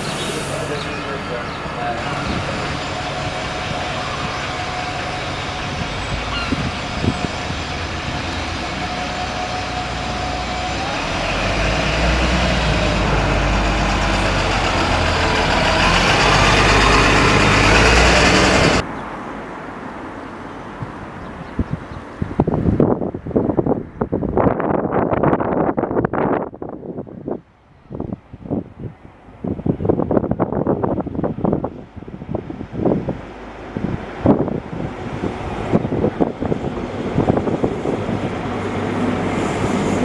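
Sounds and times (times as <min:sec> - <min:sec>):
diesel bus engine: 0:00.0 - 0:40.0
wind noise on microphone: 0:01.8 - 0:18.8, 0:20.7 - 0:40.0.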